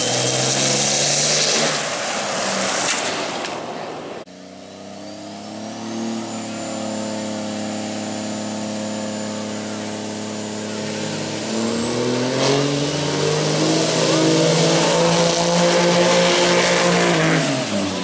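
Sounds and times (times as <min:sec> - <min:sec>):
diesel pickup engines at full throttle: 0:00.0 - 0:18.0
high engine whine: 0:00.0 - 0:18.0.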